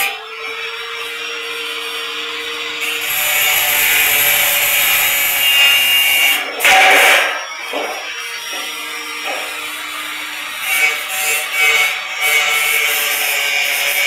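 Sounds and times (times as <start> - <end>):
angle grinder cutting steel: 0.0 - 14.0.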